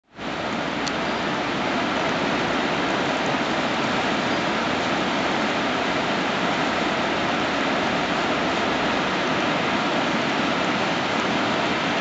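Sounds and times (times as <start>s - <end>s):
waterfall rushing: 0.1s - 12.0s.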